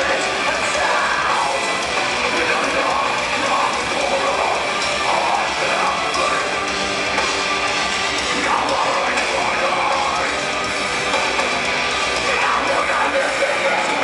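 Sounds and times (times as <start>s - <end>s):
distorted electric guitars: 0.0s - 14.0s
drum kit: 0.0s - 14.0s
metalcore band playing live: 0.0s - 14.0s.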